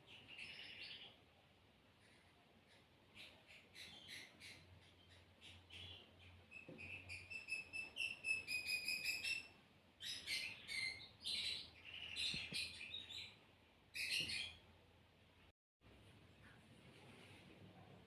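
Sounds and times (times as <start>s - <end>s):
small birds chirping: 0.0s - 15.5s.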